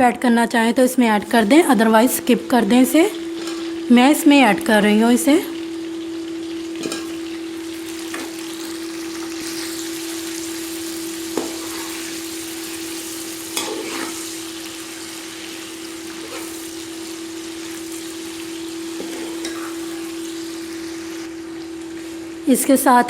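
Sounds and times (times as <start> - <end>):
steady hum: 0.0 - 23.0
potatoes sizzling in hot oil: 0.2 - 23.0.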